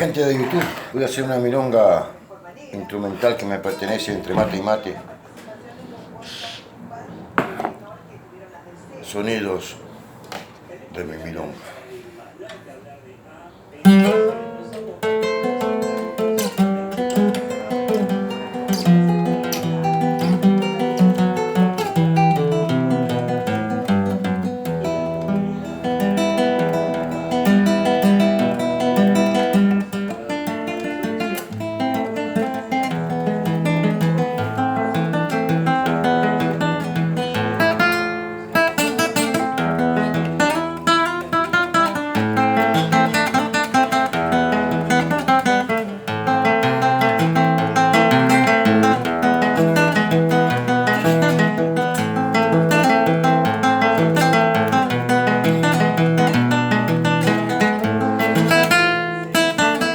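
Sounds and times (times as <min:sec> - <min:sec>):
solo acoustic guitar: 0:02.9 - 0:05.6, 0:13.8 - 0:59.9.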